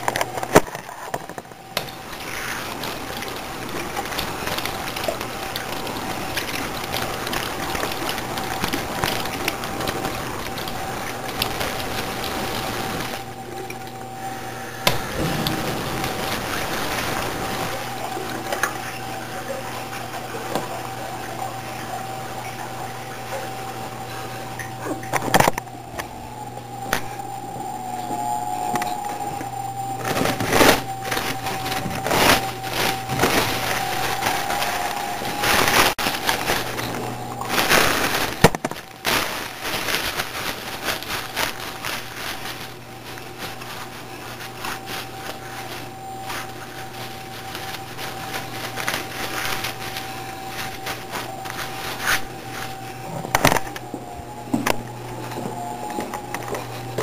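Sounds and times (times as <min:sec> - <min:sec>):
rustling: 0:00.0 - 0:21.8, 0:23.7 - 0:57.0
steady hum: 0:00.0 - 0:57.0.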